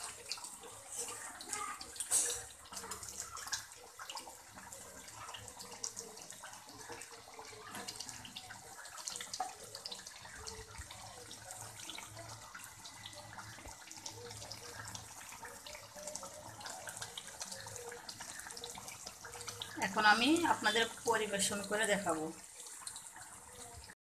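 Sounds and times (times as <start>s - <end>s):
curry bubbling with small pops: 0.0s - 24.0s.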